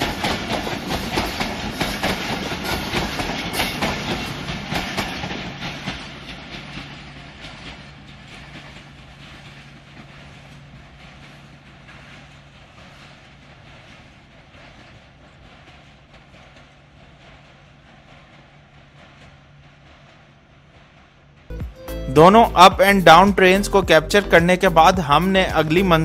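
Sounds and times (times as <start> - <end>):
train wheels clicking over rail joints: 0.0 - 21.5, 22.2 - 26.0.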